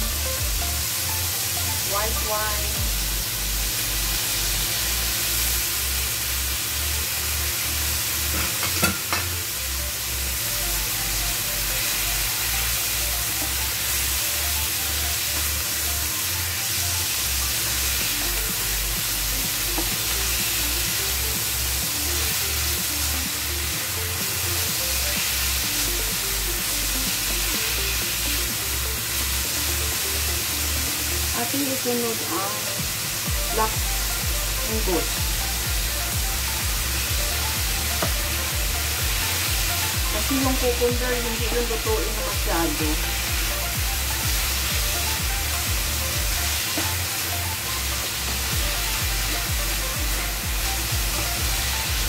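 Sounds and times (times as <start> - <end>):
chicken sizzling in frying pan: 0.0 - 52.0.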